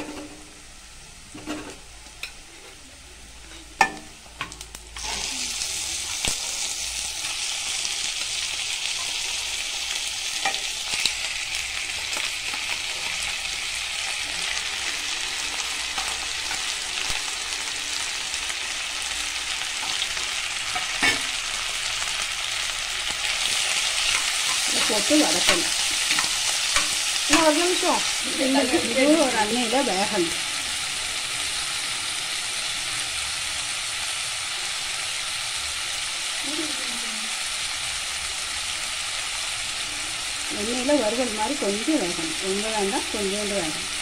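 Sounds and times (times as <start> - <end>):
meat sizzling in hot oil: 0.0 - 44.0.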